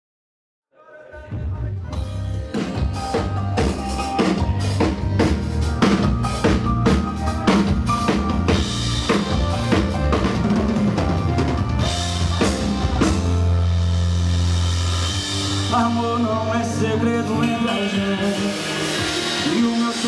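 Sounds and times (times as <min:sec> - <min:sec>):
drum kit playing: 0:01.3 - 0:20.0
held keyboard or guitar notes: 0:01.9 - 0:20.0.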